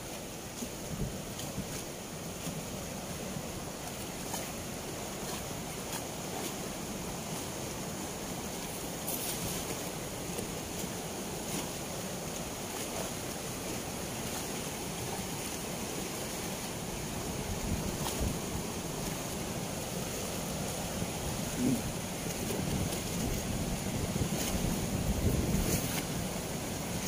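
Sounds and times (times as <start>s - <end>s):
water rushing through weir gates: 0.0s - 27.0s.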